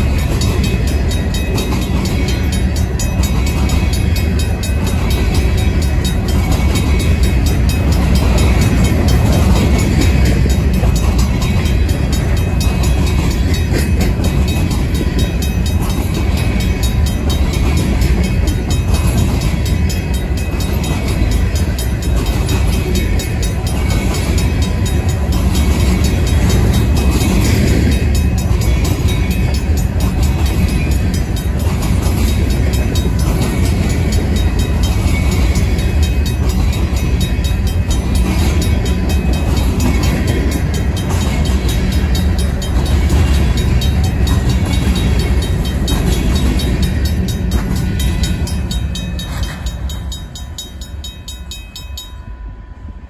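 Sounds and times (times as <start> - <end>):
crossing bell ringing: 0.0 - 53.0
train wheels rumbling on rails: 0.0 - 53.0.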